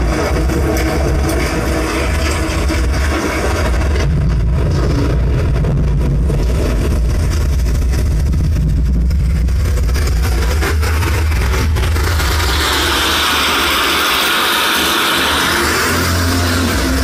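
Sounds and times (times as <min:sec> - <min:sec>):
deep bass rumble: 0:00.0 - 0:17.0.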